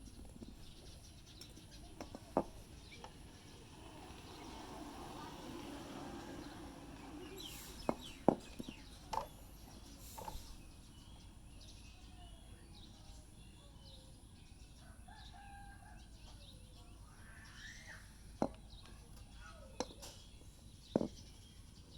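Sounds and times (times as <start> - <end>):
birds calling faintly: 0.0 - 21.9.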